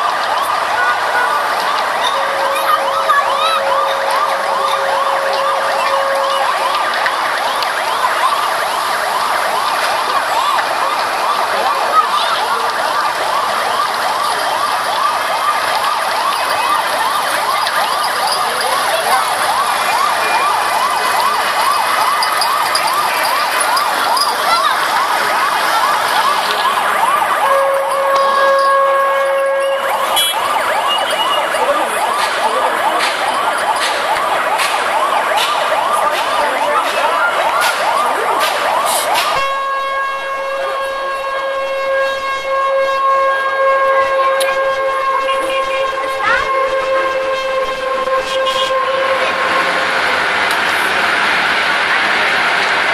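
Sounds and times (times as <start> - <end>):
fire engine siren wailing: 0.0 - 52.9.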